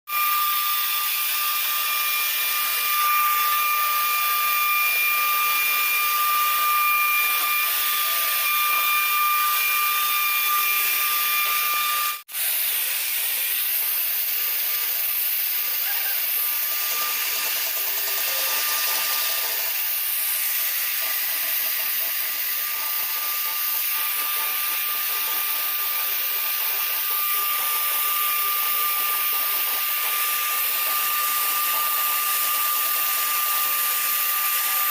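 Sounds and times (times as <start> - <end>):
router high whine: 0.1 - 34.9.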